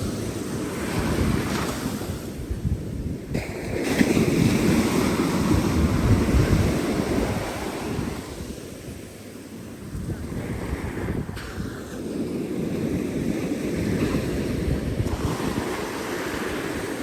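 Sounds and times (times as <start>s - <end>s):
waves washing on beach: 0.0s - 17.0s
wind buffeting microphone: 0.0s - 17.0s.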